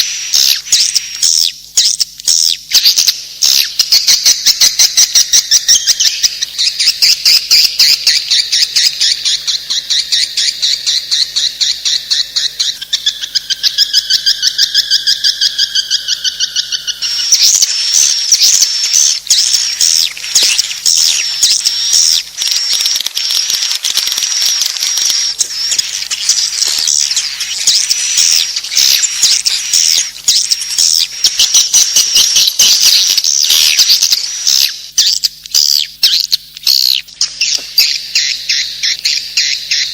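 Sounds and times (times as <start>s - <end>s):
swiftlets twittering: 0.0s - 39.9s.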